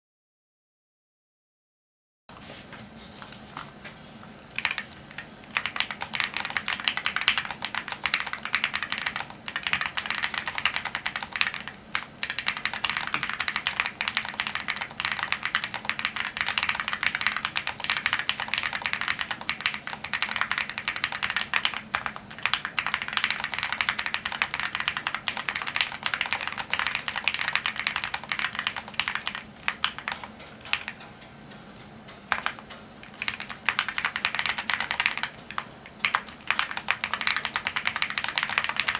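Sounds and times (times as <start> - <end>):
fast mechanical keyboard typing: 4.5 - 31.2, 32.3 - 38.9.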